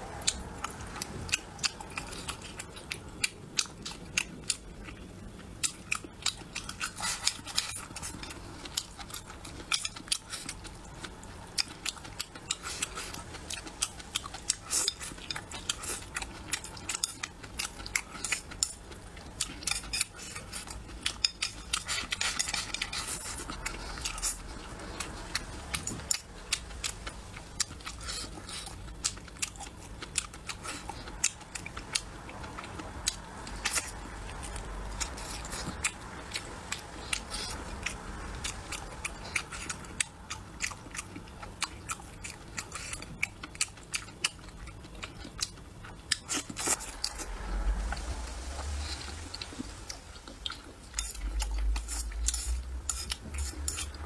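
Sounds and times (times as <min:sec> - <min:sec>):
chewing and mouth smacks: 0:00.2 - 0:48.1.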